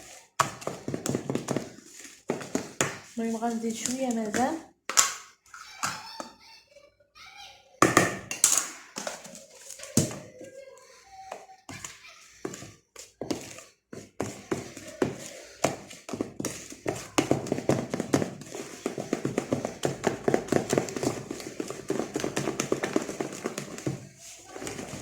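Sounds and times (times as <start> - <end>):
batter beaten by hand in bowl: 0.0 - 6.3, 7.8 - 10.7, 11.3 - 25.0.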